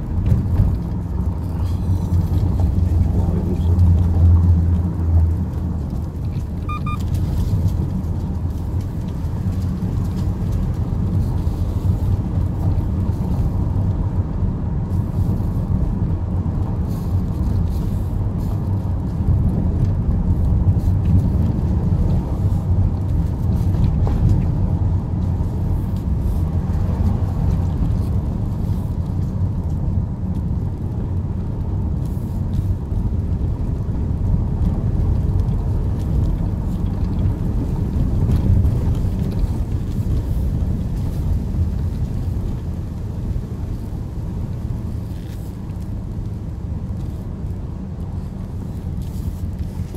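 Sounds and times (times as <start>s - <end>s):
car engine and tyre rumble: 0.0s - 49.9s.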